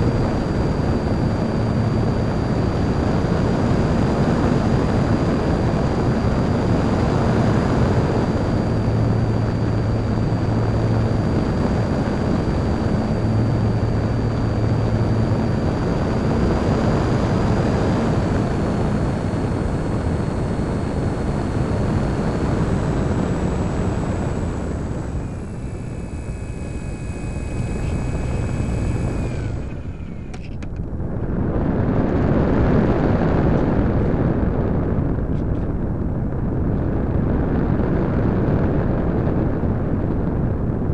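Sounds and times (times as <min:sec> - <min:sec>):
electric motor high whine: 0:00.0 - 0:35.6.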